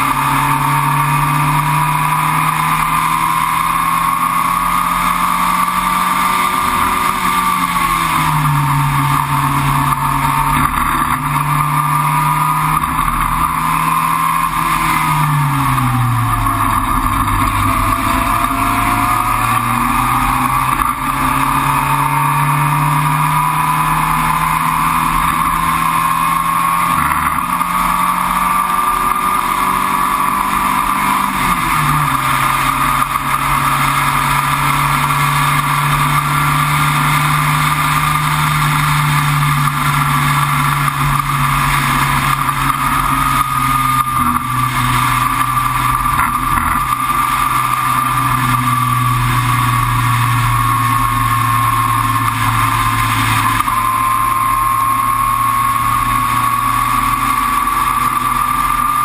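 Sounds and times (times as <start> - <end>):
race car engine running: 0.0 - 59.0.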